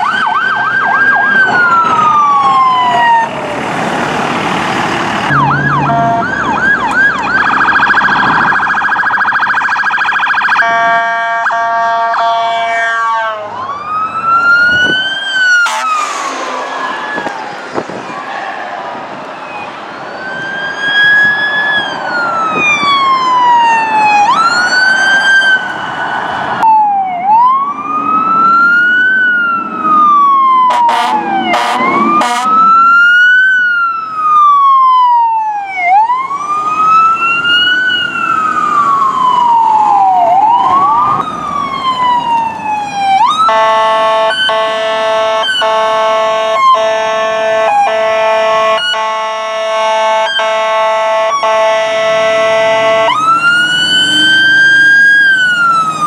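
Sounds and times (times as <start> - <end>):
wail sirens: 0.0 - 4.3, 5.2 - 56.0.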